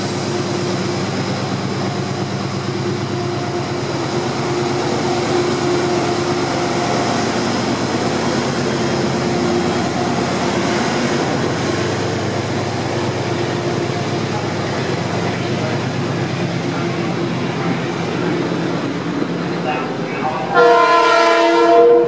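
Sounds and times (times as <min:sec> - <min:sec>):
diesel locomotive engine humming: 0:00.0 - 0:22.0
rolling rumble of train coaches: 0:00.0 - 0:22.0.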